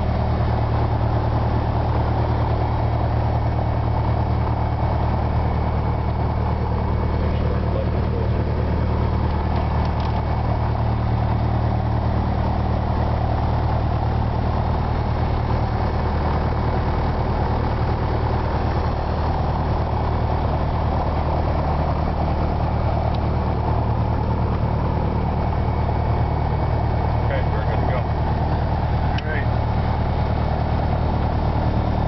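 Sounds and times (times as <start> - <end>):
light airplane engine drone: 0.0 - 32.0.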